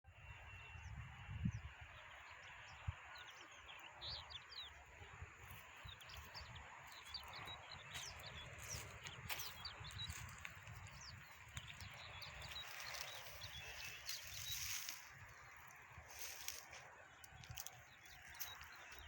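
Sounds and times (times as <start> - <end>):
birds chirping: 0.1 - 19.0.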